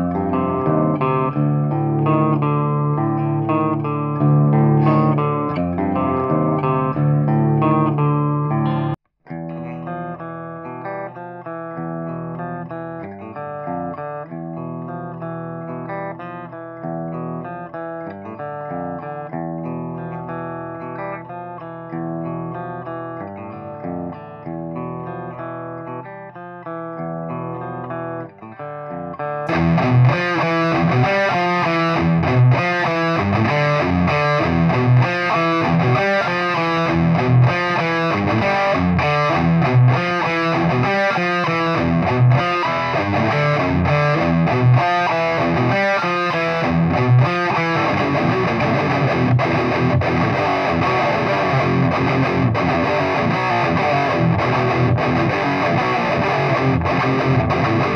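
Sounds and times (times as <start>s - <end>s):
electric guitar: 0.0s - 57.9s.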